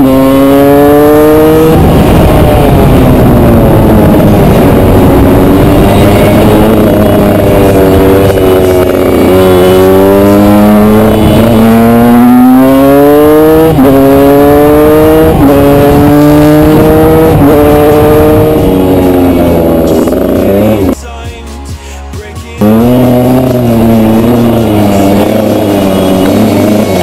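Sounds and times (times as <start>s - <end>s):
motorcycle engine accelerating and shifting: 0.0s - 21.0s, 22.6s - 27.0s.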